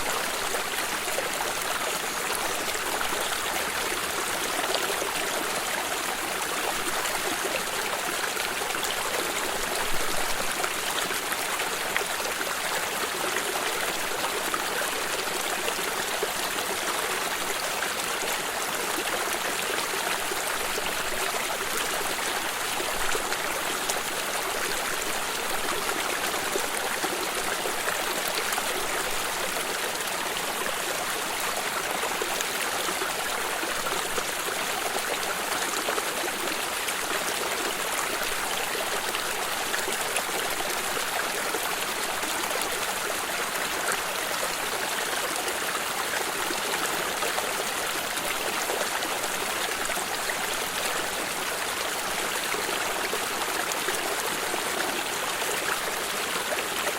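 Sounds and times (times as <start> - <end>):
running water stream: 0.0 - 56.9.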